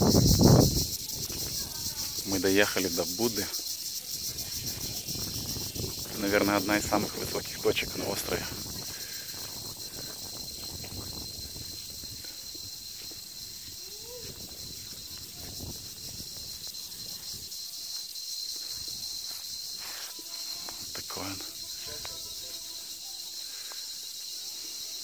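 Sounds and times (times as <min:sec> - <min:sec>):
insects chorus: 0:00.0 - 0:25.0
outdoor rustling: 0:00.0 - 0:25.0.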